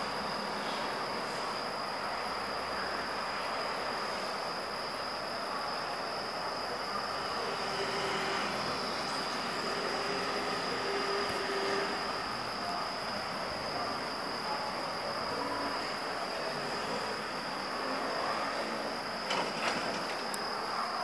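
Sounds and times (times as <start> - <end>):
insect trill: 0.0 - 21.0.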